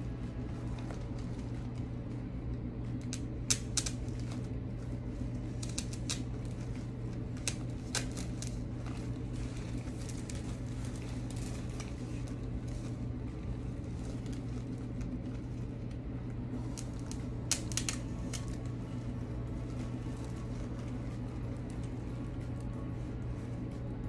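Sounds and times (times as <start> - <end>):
artificial flowers rustling: 0.0 - 24.0
steady low hum: 0.0 - 24.0.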